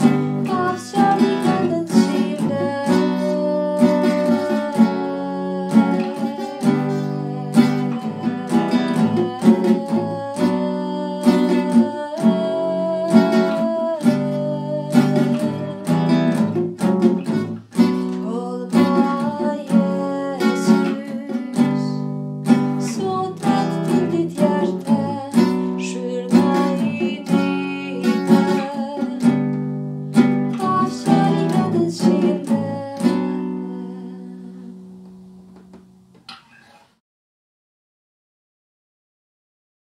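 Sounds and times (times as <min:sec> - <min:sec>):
woman singing: 0:00.0 - 0:35.0
classical guitar picking chords: 0:00.0 - 0:36.8.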